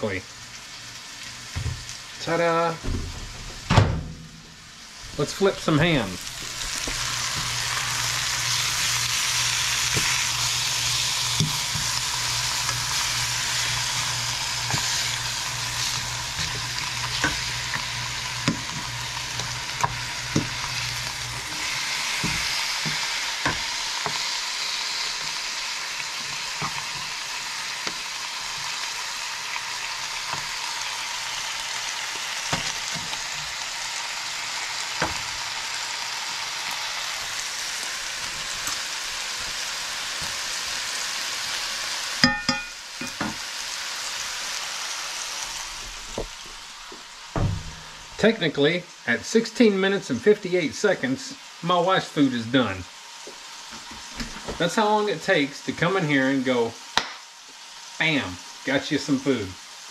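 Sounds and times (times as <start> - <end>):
meat sizzling in a skillet: 0.0 - 2.7, 4.5 - 59.9.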